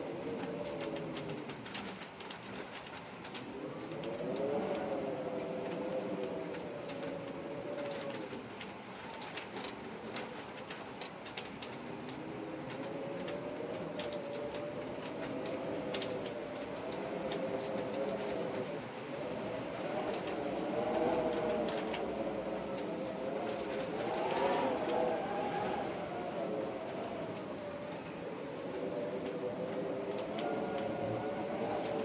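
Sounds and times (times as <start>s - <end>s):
low wavering wind moan: 0.0s - 32.0s
rain drops striking: 0.0s - 32.0s.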